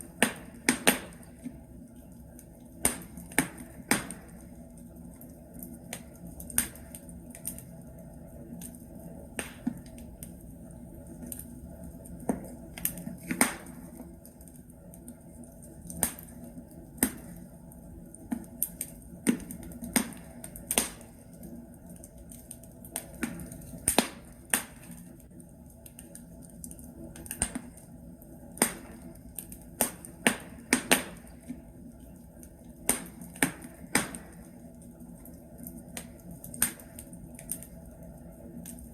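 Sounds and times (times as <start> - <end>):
logs crackling in a fireplace: 0.0 - 38.9.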